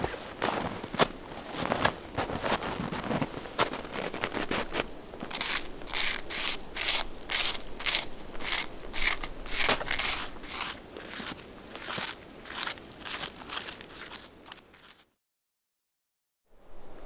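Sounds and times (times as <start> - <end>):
footsteps crunching in snow: 0.0 - 15.1.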